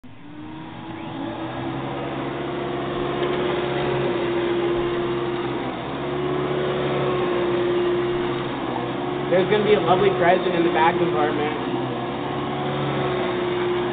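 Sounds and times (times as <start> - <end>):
vacuum cleaner motor whine: 0.0 - 13.9.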